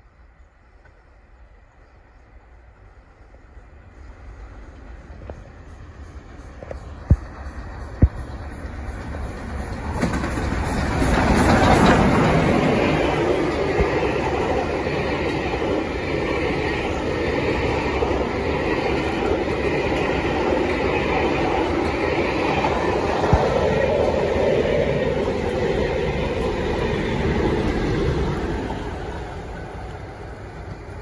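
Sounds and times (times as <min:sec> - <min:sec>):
steam locomotive passing: 0:00.0 - 0:31.0
train wheels clacking on rails: 0:04.7 - 0:31.0.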